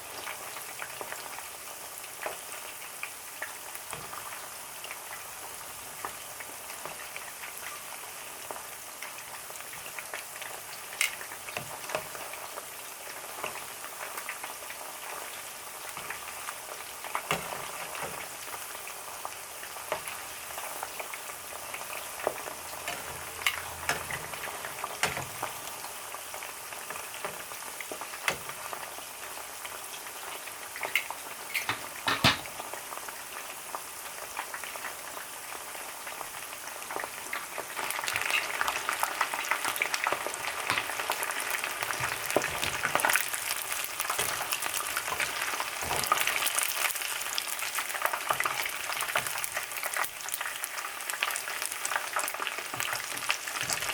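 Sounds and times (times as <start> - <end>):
food deep-frying in hot oil: 0.0 - 53.9.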